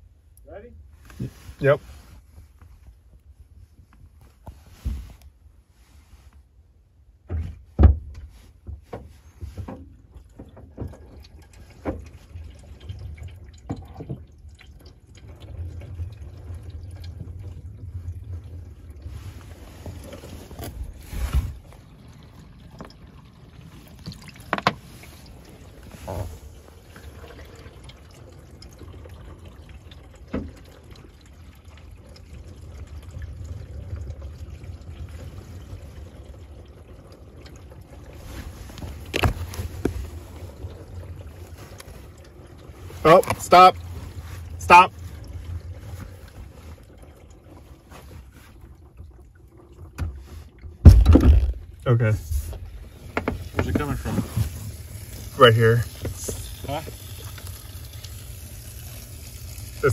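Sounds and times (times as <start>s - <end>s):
muffled water splashing on car: 0.0s - 59.9s.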